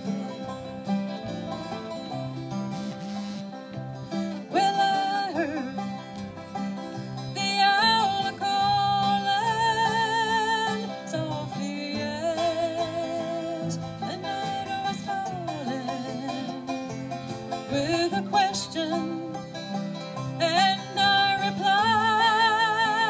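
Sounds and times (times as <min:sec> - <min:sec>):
acoustic guitars strumming: 0:00.0 - 0:23.0
banjo: 0:00.0 - 0:23.0
held melody with vibrato: 0:00.0 - 0:23.0.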